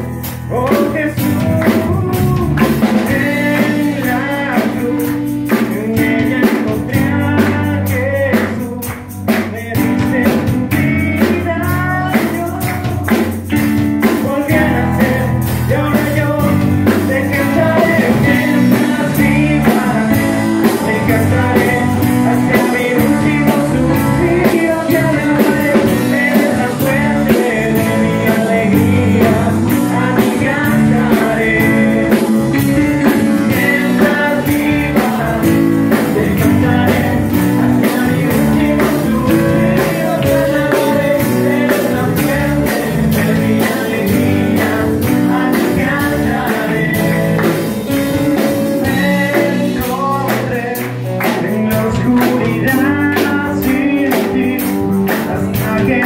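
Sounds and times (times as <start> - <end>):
bass: 0.0 - 56.0
drum beat: 0.0 - 56.0
electric guitar: 0.0 - 56.0
keyboard: 0.0 - 56.0
men singing into microphones: 0.0 - 56.0.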